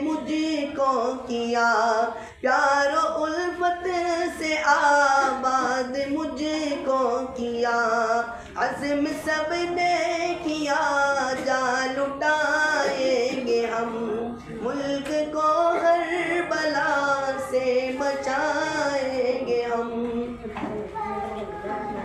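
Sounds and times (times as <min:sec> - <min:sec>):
boy singing unaccompanied: 0:00.0 - 0:22.0.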